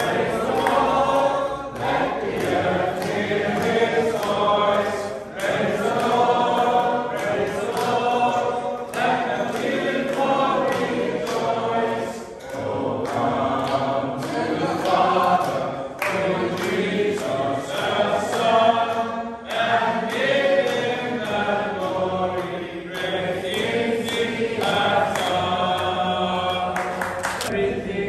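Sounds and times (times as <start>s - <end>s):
hand claps: 0.0s - 27.6s
men singing in chorus: 0.0s - 28.0s.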